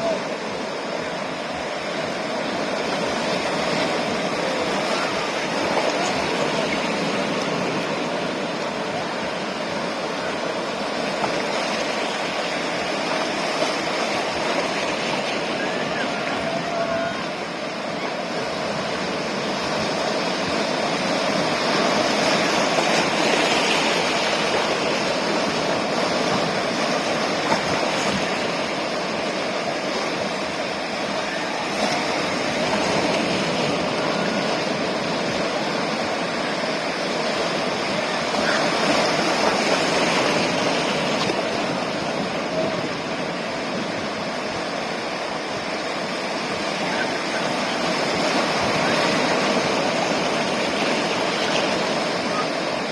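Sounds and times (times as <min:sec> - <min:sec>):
ocean surf breaking on shore: 0:00.0 - 0:52.9.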